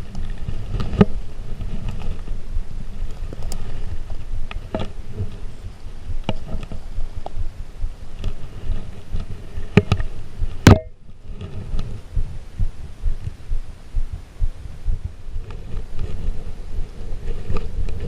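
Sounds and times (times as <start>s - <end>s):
low rumbling wind: 0.0s - 18.0s
microphone handling noise: 0.0s - 18.0s.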